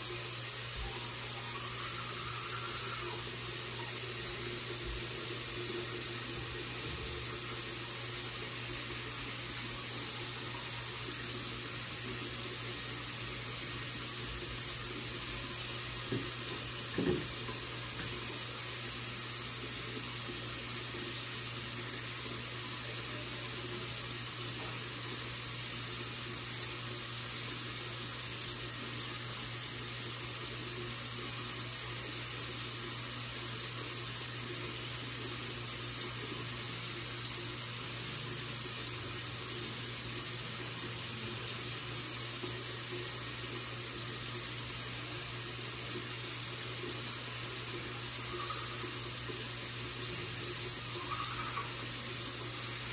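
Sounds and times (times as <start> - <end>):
sink tap running: 0.0 - 52.9.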